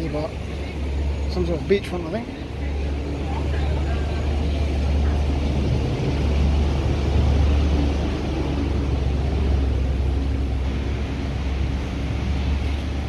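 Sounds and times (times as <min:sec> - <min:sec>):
outdoor background noise: 0:00.0 - 0:13.0
steady low rumble: 0:00.0 - 0:13.0.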